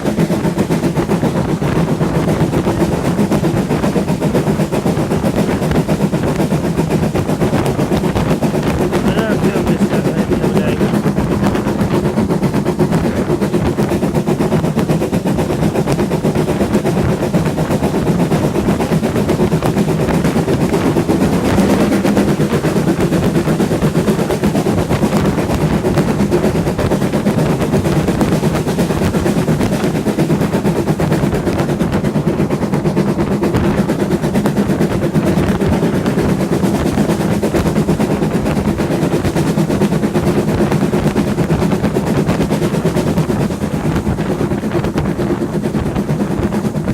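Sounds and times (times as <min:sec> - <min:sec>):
train rumbling: 0:00.0 - 0:46.9
train wheels rattling on track: 0:00.0 - 0:46.9.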